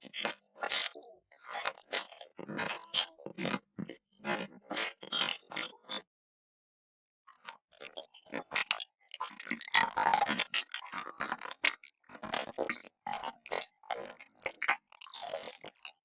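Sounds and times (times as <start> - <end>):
chewing and smacking: 0.0 - 6.0, 7.3 - 16.0.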